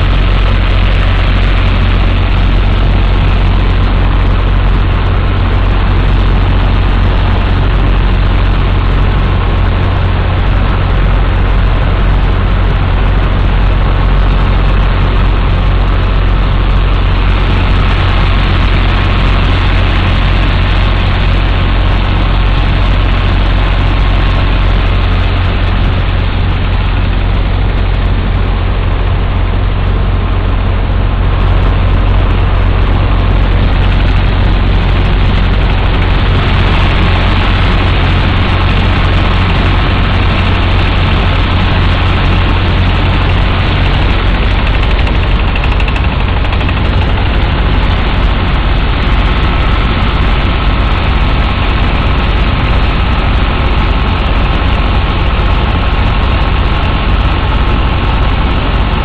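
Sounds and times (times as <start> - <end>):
engine and pump drone: 0.0 - 59.0.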